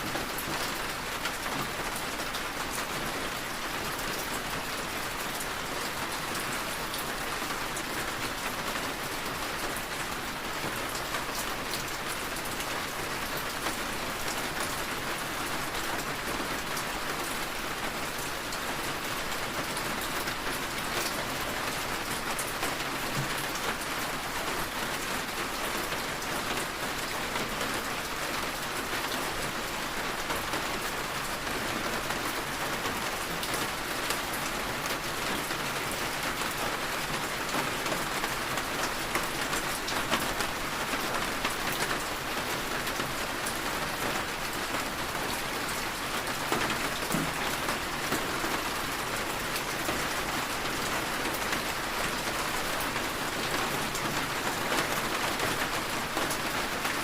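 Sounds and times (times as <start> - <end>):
rain tapping on a window: 0.0 - 57.0.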